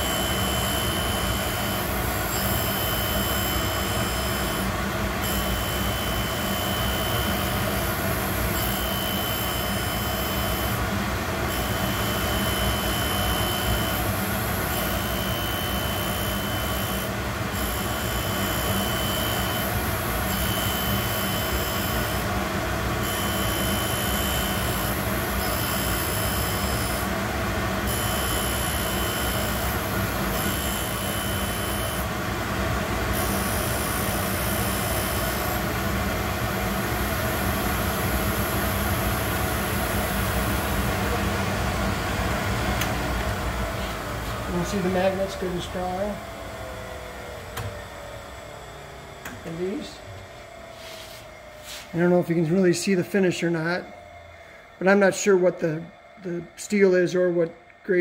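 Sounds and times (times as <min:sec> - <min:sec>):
grinder machine hum: 0:00.0 - 0:58.0
high grinding whine: 0:00.0 - 0:58.0.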